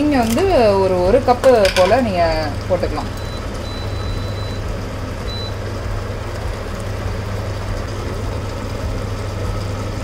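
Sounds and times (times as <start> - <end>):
pots cooking on a hob: 0.0 - 10.0.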